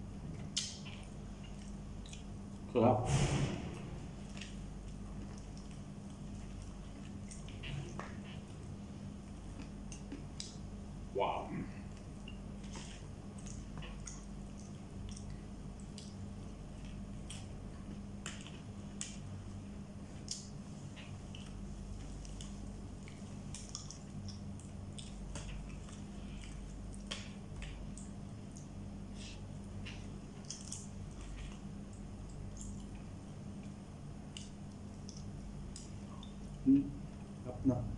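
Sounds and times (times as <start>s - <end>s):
steady low hum: 0.0s - 37.9s
wet chewing smacks: 0.3s - 2.7s, 3.8s - 10.8s, 11.7s - 37.3s.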